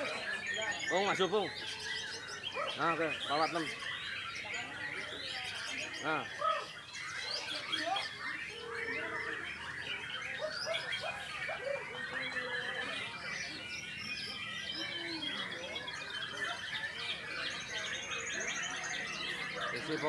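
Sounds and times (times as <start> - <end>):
birds singing whistles and trills: 0.0 - 20.0.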